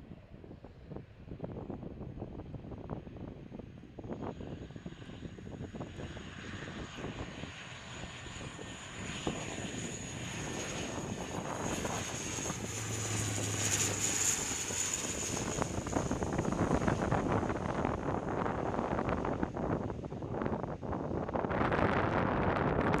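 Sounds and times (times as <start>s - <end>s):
turboprop aircraft passing overhead: 0.0s - 23.0s.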